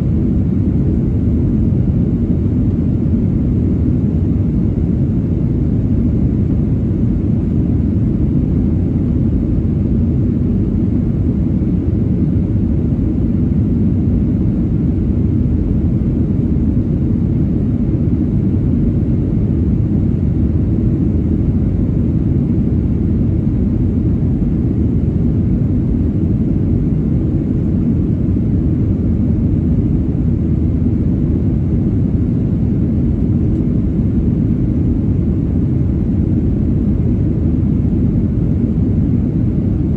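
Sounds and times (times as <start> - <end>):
jet engines running in cabin: 0.0 - 39.9.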